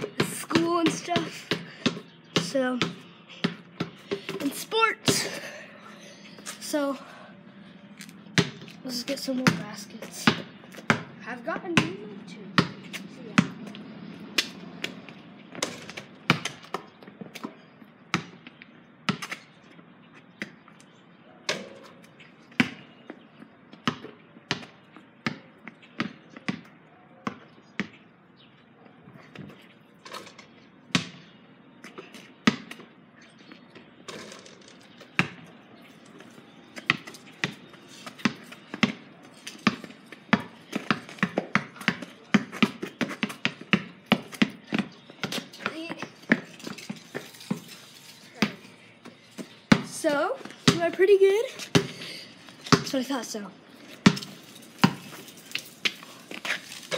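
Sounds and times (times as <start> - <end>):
basketball bouncing on pavement: 0.0 - 5.5, 8.0 - 20.8, 21.5 - 28.1, 29.3 - 56.9.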